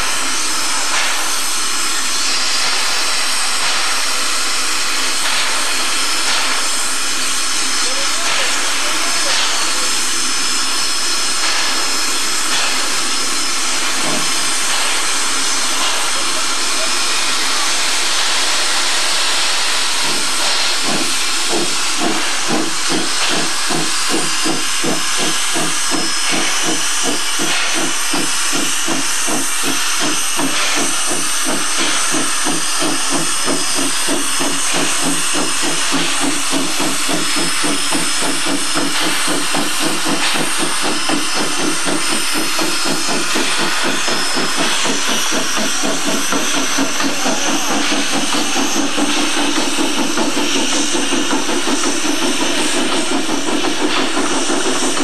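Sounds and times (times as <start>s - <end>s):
steam hissing: 0.0s - 55.0s
steam locomotive exhaust chuffs: 0.0s - 55.0s.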